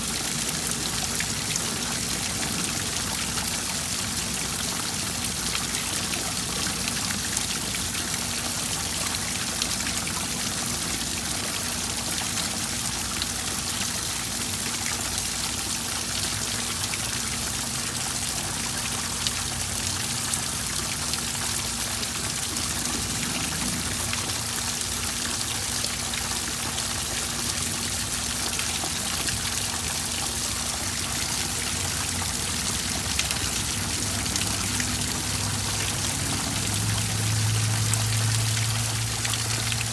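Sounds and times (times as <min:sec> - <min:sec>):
rain falling on water: 0:00.0 - 0:39.9
waterfall splashing into pond: 0:00.0 - 0:39.9.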